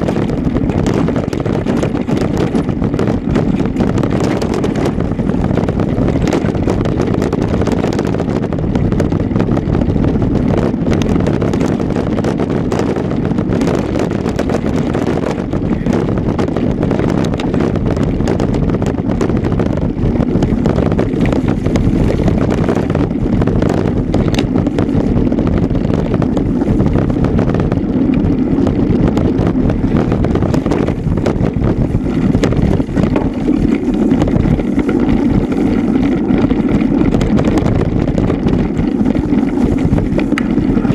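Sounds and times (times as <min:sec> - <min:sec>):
bike rattling and knocking: 0:00.0 - 0:40.9
wind rush on microphone: 0:00.0 - 0:40.9.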